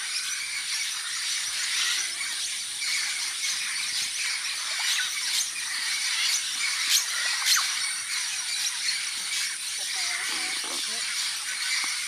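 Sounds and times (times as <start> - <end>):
parrots screeching and squawking: 0.0 - 12.0.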